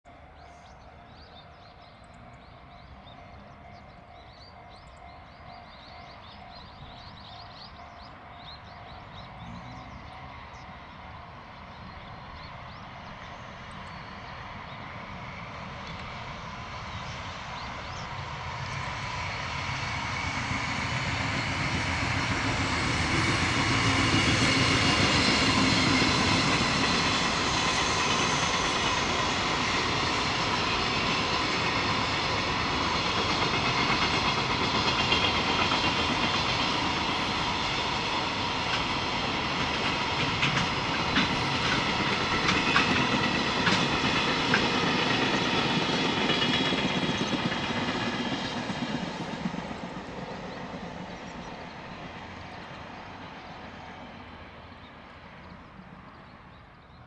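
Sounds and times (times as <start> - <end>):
locomotive whine: 0.0 - 57.0
train wheels rumbling on rails: 0.0 - 57.0.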